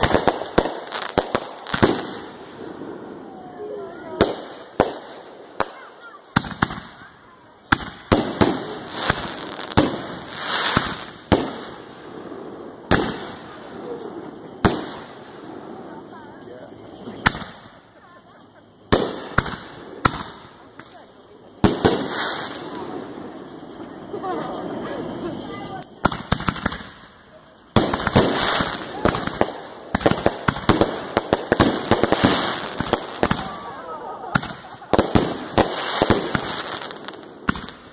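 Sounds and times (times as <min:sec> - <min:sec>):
fireworks bangs: 0:00.0 - 0:37.9
fireworks hissing: 0:00.0 - 0:37.9.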